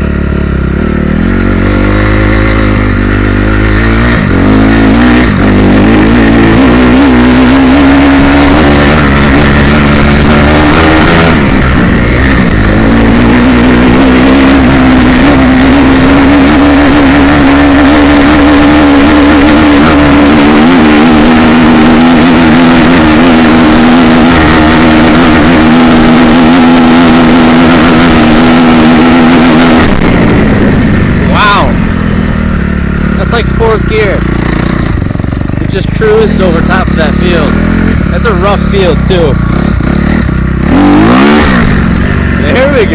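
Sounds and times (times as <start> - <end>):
dirt bike engine revving high: 0.0 - 42.9.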